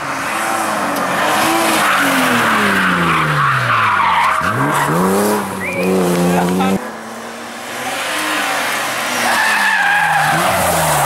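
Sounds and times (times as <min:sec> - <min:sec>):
rally car engine revving: 0:00.0 - 0:11.0
tyres skidding: 0:00.0 - 0:11.0.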